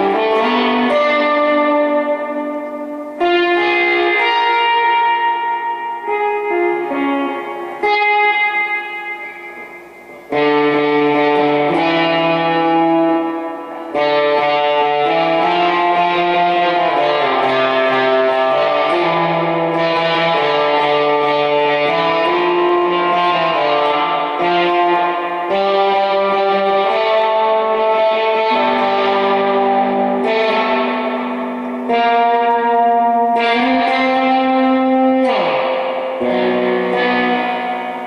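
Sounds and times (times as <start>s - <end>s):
overdriven electric guitar chords: 0.0s - 38.0s.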